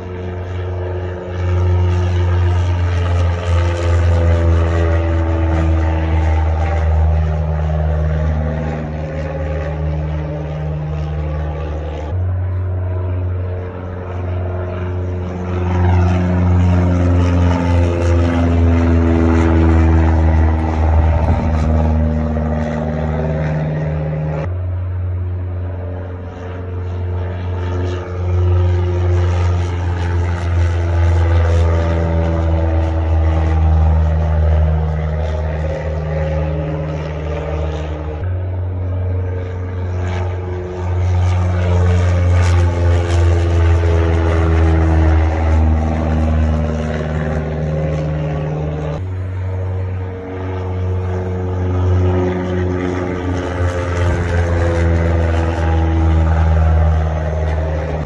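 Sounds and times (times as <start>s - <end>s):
light plane engine drone: 0.0s - 58.0s.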